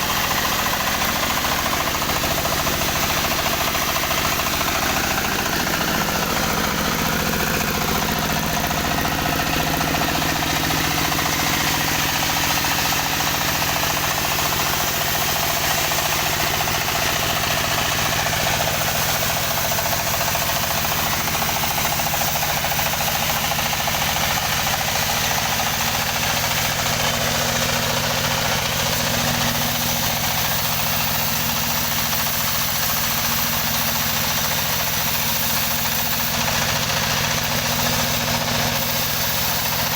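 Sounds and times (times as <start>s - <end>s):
saw engine running steadily: 0.0s - 39.9s.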